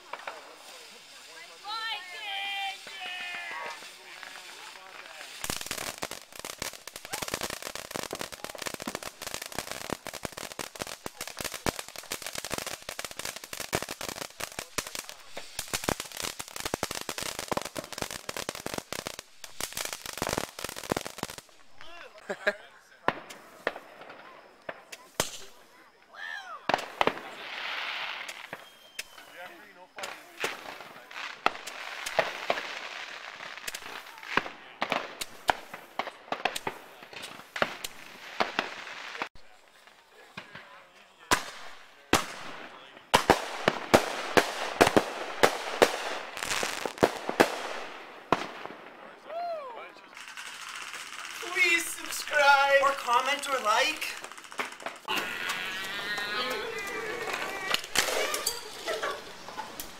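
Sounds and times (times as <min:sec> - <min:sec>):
firework crackling pops: 0:00.0 - 0:22.3, 0:23.0 - 0:25.9, 0:26.7 - 0:59.9
firework hissing: 0:00.0 - 0:22.4, 0:24.9 - 0:25.8, 0:26.7 - 0:39.8, 0:41.3 - 0:48.8, 0:50.1 - 0:59.9.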